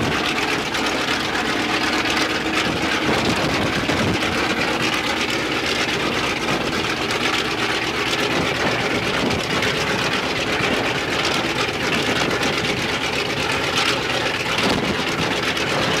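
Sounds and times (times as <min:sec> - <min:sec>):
radial aircraft engine running: 0:00.0 - 0:16.0.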